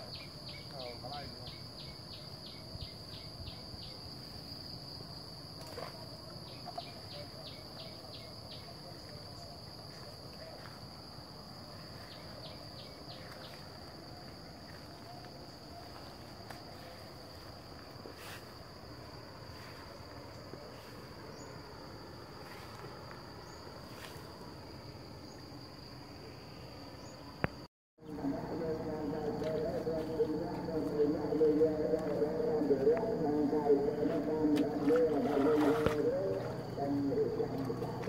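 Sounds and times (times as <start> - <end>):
insects droning: 0.0 - 38.0
rapid insect chirping: 0.0 - 38.0.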